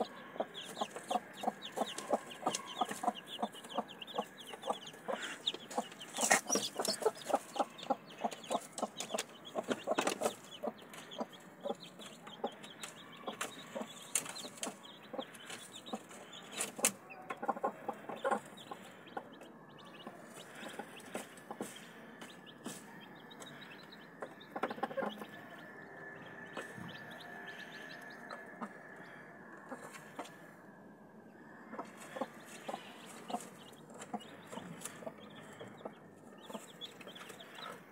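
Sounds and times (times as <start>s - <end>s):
hen clucking: 0.0s - 25.7s, 31.6s - 37.9s
chicks peeping: 0.0s - 30.5s, 31.3s - 37.9s.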